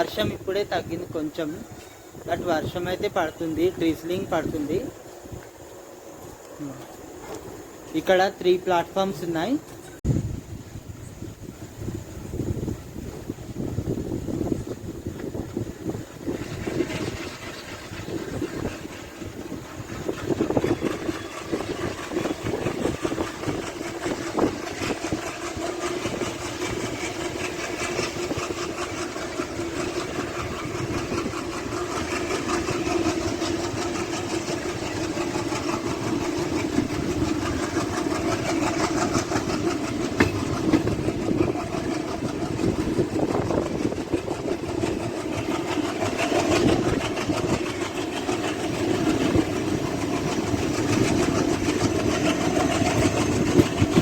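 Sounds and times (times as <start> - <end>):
train diesel engine running: 0.0 - 54.0.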